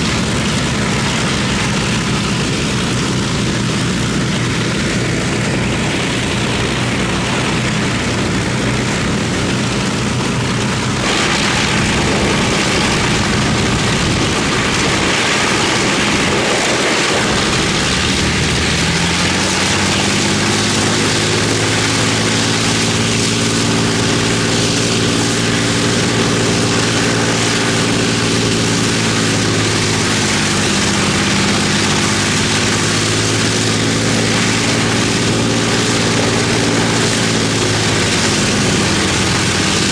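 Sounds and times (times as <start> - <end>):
aircraft piston engines droning: 0.0 - 39.9.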